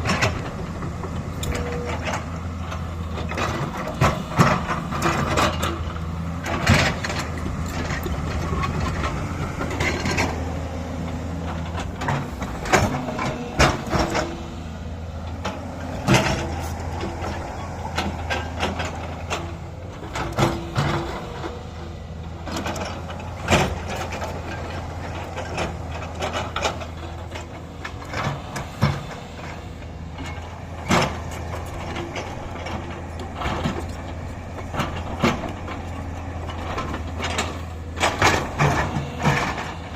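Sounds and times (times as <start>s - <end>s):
metal clanks and knocks: 0.0s - 14.6s, 15.2s - 39.9s
excavator diesel engine running: 0.0s - 39.9s.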